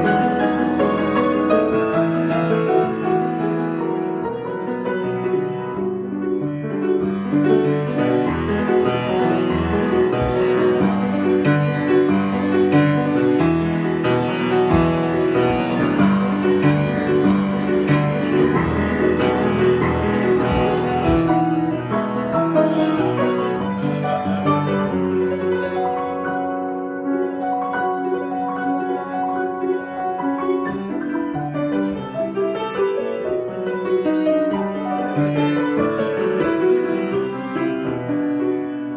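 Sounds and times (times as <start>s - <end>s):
piano improvisation: 0.0s - 38.9s.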